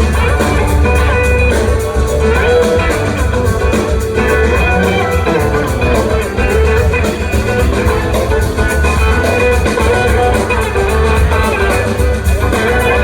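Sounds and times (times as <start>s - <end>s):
bass: 0.0s - 13.0s
drum kit: 0.0s - 13.0s
electric guitar: 0.0s - 13.0s.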